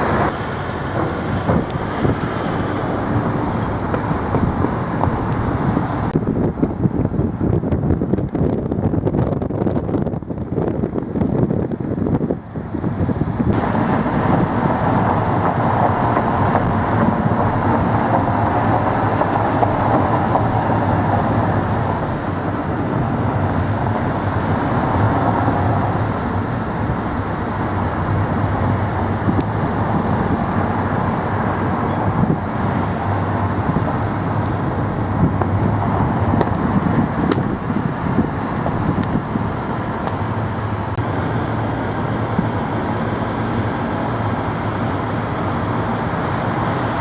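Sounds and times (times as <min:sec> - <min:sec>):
motor vehicle running: 0:00.0 - 0:47.0.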